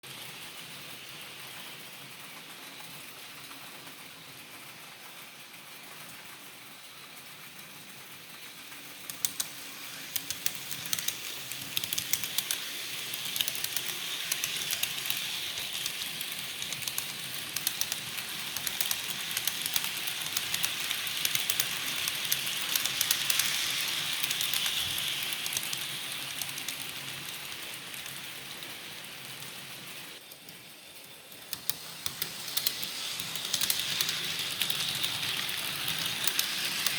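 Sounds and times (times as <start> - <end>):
model train running on track: 0.0 - 36.9.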